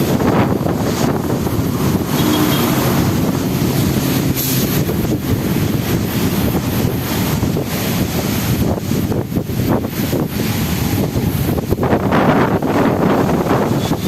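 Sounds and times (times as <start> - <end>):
strong wind buffeting microphone: 0.0 - 14.0
waves: 0.0 - 14.0.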